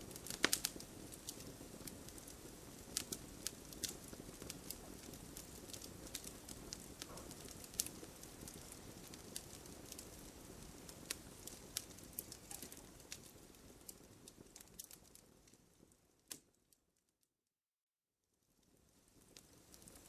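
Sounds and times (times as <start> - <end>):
campfire crackling: 0.0 - 16.8, 18.5 - 20.0.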